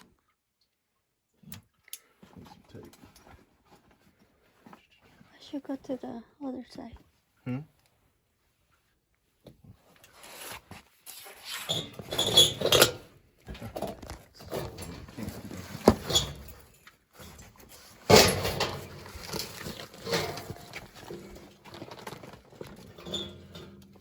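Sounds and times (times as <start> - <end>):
rustling of hands and tools: 0.0 - 6.1, 6.8 - 24.0.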